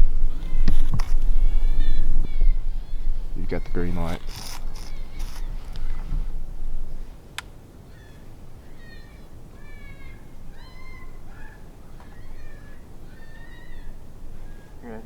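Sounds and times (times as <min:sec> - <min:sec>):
rabbit distress call squeals: 0:00.3 - 0:06.3, 0:07.9 - 0:15.0.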